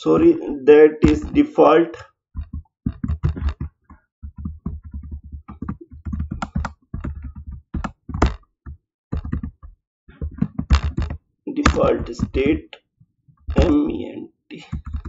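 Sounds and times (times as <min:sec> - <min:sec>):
computer keyboard typing: 0:00.0 - 0:01.5, 0:02.4 - 0:12.7, 0:13.5 - 0:15.0.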